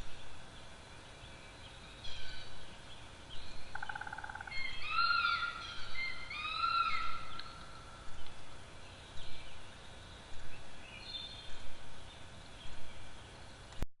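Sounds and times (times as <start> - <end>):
outdoor background noise: 0.0 - 13.9.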